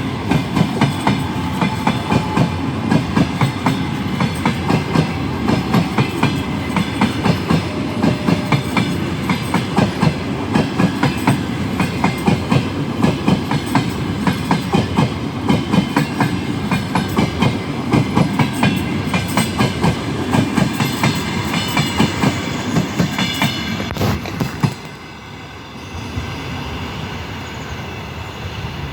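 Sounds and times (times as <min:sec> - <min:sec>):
train wheels clacking: 0:00.0 - 0:25.1
train rumble: 0:00.0 - 0:28.9.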